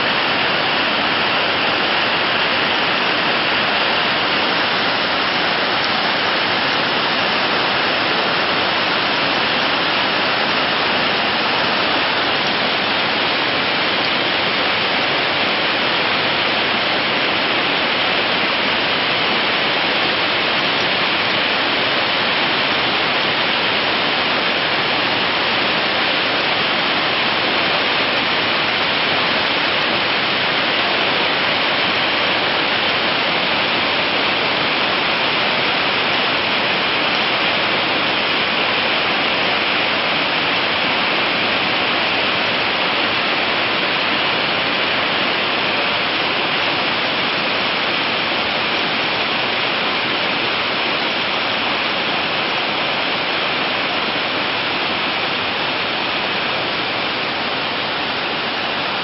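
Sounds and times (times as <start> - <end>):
steady rushing hiss: 0.0 - 59.0.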